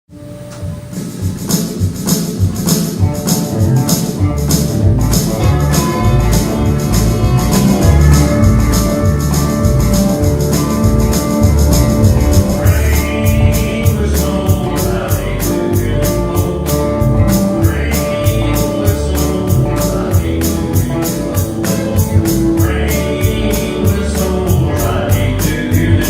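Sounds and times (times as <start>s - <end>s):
drums keeping steady beat: 0.1s - 26.0s
country band playing: 0.2s - 26.0s.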